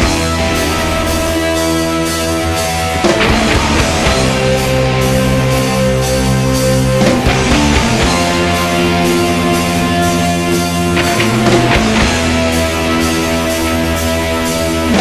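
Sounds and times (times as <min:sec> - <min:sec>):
rock band playing held chords: 0:00.0 - 0:15.0.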